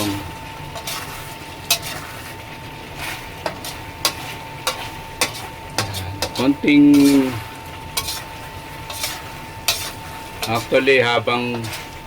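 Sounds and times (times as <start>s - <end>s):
light sizzle: 0.0s - 12.0s
utensil stirring food in pan: 0.0s - 12.0s.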